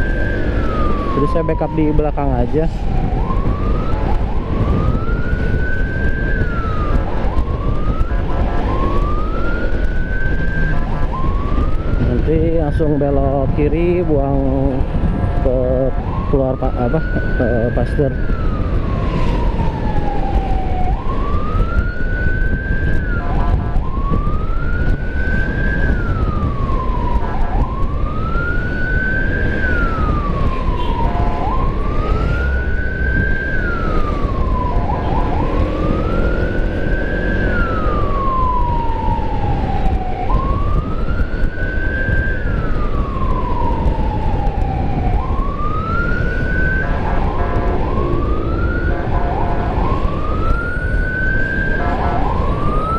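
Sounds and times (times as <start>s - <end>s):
emergency siren wailing: 0.0s - 52.9s
wind rumble: 0.0s - 52.9s.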